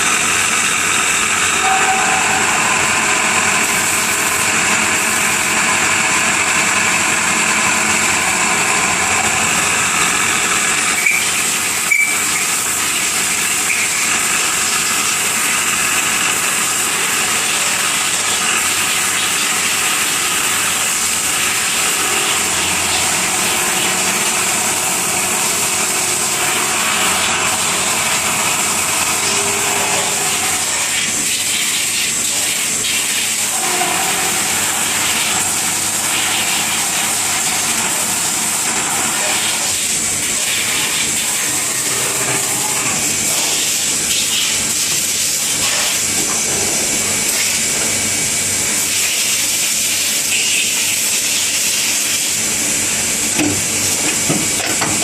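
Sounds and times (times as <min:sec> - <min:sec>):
machine hiss with high whine: 0:00.0 - 0:55.0.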